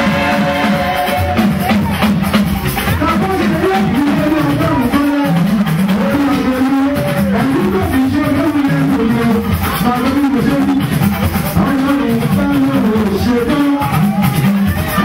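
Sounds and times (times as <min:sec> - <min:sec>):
band music with guitar and drums: 0:00.0 - 0:15.0.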